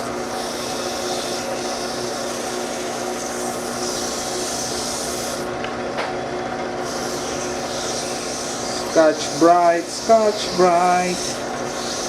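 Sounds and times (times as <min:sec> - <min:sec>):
pad scrubbing spinning valve: 0:00.0 - 0:05.6, 0:06.8 - 0:12.0
steady motor hum: 0:00.0 - 0:12.0.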